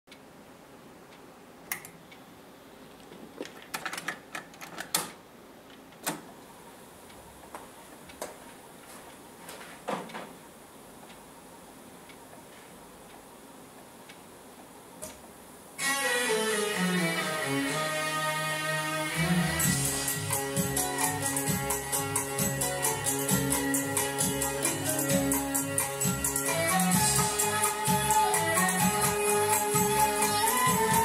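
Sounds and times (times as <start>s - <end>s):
faint steady hiss: 0.1s - 31.0s.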